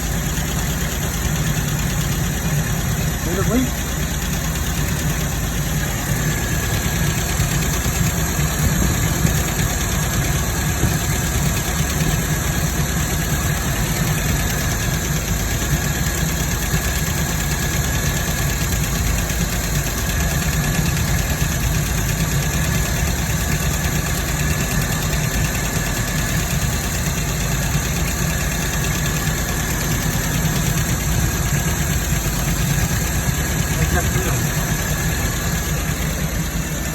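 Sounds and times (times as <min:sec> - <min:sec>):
sports car engine idling: 0:00.0 - 0:36.9.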